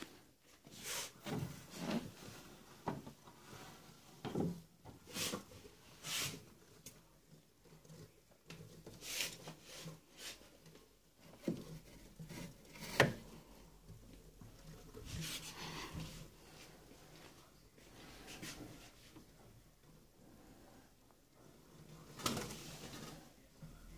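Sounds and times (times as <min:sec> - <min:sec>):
hands handling wooden birdcage: 0:00.0 - 0:20.0.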